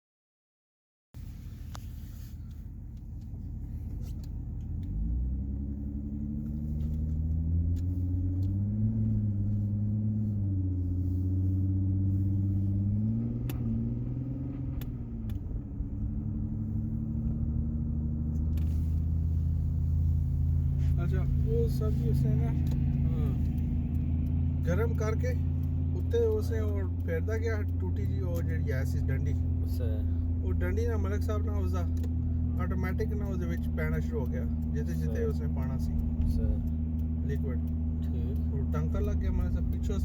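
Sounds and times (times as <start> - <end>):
car engine accelerating: 1.2 - 40.0
road noise inside car: 1.2 - 40.0.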